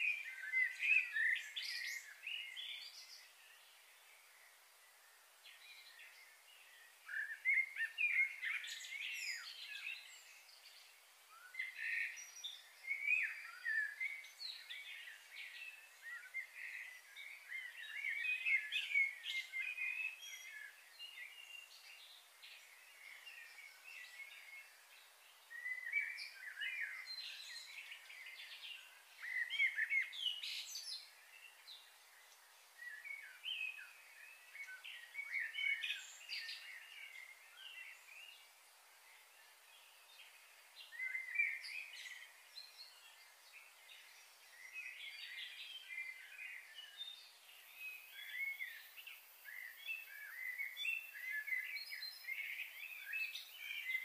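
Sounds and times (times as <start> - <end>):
faint steady hiss: 0.0 - 54.0
small birds chirping: 0.0 - 54.0.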